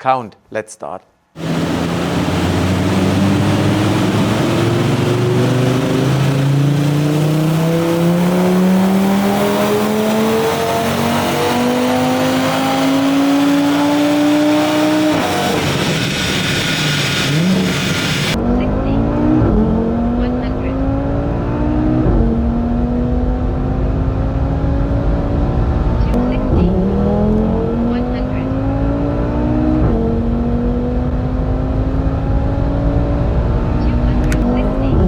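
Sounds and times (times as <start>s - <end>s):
turbo car engine revving: 1.4s - 35.0s.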